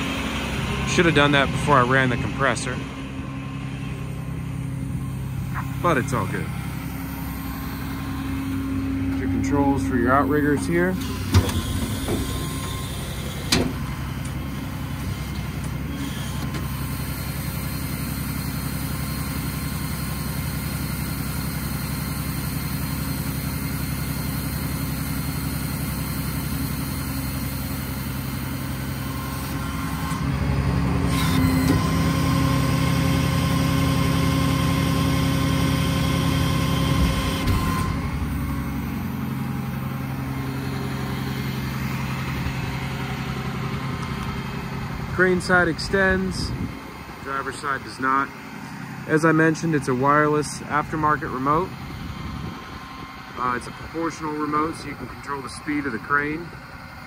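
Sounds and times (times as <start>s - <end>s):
diesel engine idling: 0.0s - 57.0s
hydraulic whine: 0.0s - 57.0s.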